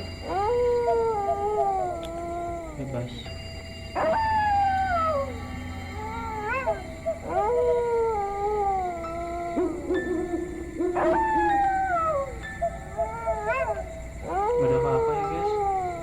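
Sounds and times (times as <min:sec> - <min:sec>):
dogs howling: 0:00.0 - 0:03.3, 0:03.9 - 0:16.0.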